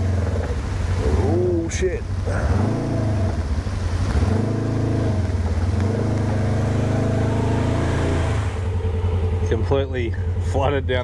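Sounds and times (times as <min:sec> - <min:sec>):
utility vehicle engine revving: 0:00.0 - 0:10.6.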